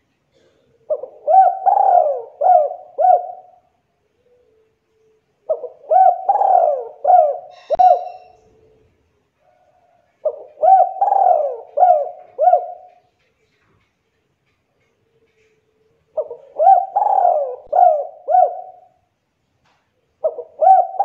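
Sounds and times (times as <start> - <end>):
dove cooing: 0.3 - 13.2, 15.0 - 19.1, 20.2 - 21.0.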